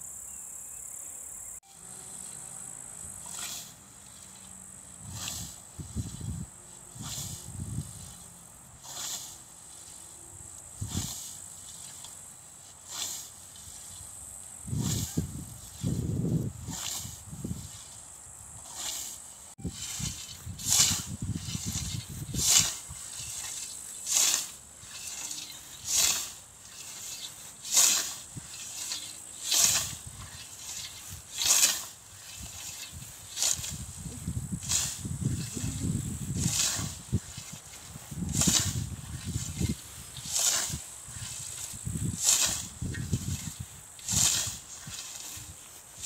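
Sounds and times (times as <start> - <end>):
scythe swishing through grass: 1.6 - 46.0.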